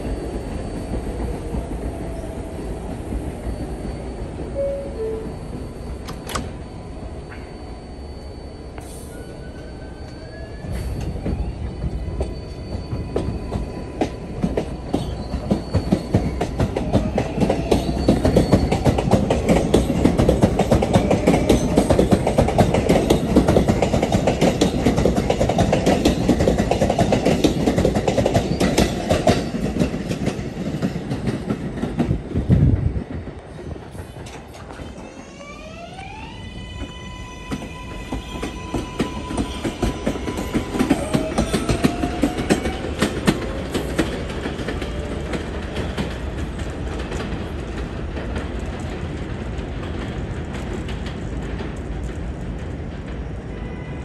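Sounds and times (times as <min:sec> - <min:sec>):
rail rumble and clacking wheels: 0:00.0 - 0:54.0
subway traction motors whining: 0:00.0 - 0:54.0.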